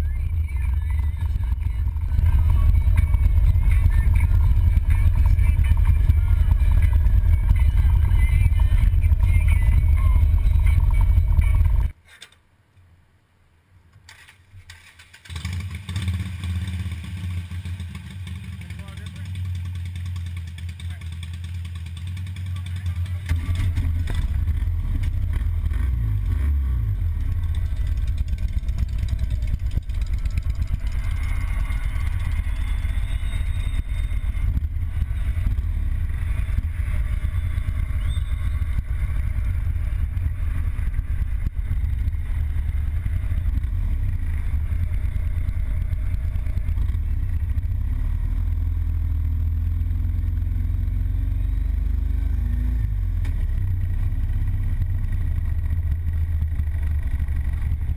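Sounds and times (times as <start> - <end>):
motorcycle engine running: 0.0 - 12.0, 14.9 - 57.9
road and wind noise: 0.0 - 57.9.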